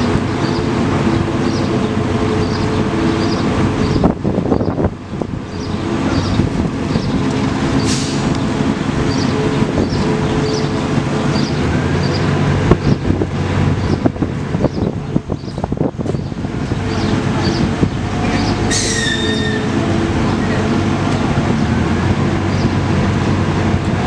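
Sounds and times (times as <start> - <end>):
heavy machinery engine running: 0.0 - 24.0.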